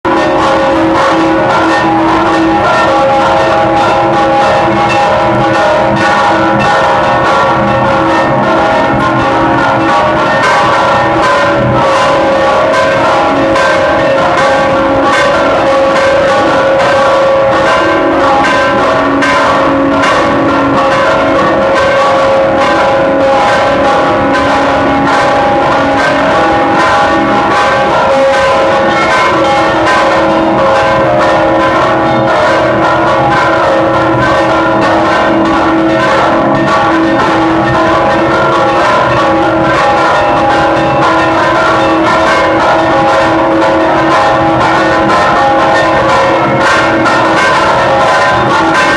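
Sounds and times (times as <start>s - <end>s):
church bells ringing rapidly: 0.0s - 48.9s.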